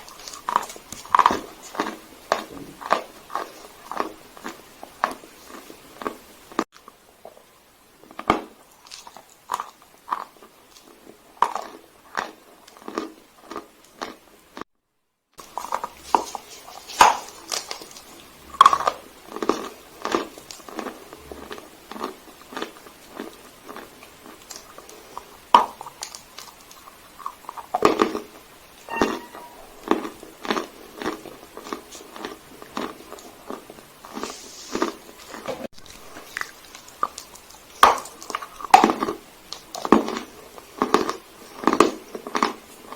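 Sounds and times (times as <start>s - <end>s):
chalk crunching while chewed: 0.0s - 7.4s, 8.2s - 14.6s, 15.4s - 28.5s, 29.7s - 42.9s.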